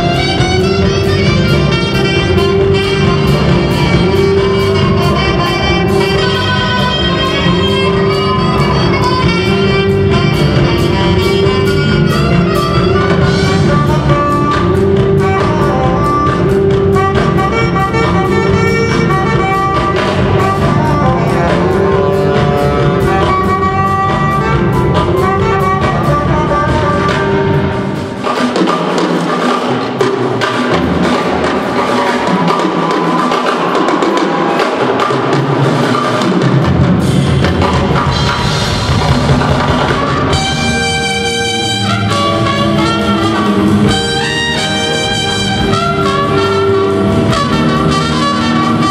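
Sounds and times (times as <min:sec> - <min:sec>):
jazz band playing: 0:00.0 - 0:48.9.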